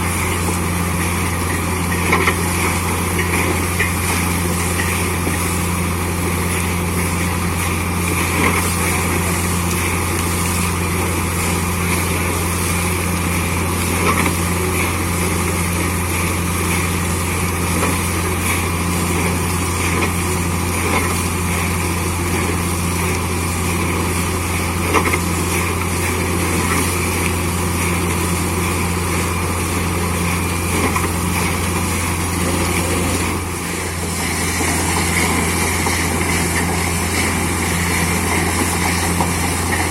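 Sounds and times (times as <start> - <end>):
drilling rig and compressor drone: 0.0 - 39.9.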